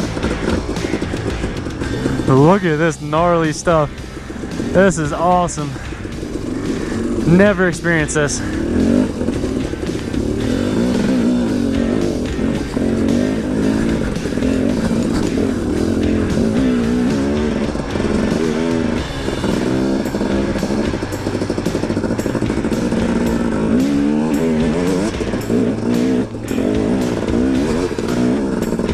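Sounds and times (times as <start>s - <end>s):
two-stroke dirt bike engine revving: 0.0s - 28.9s.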